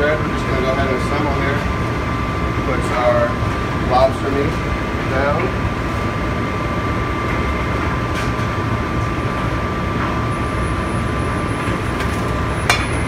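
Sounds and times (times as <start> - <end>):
constant high whine: 0.0 - 13.0
kitchen ventilation rushing: 0.0 - 13.0.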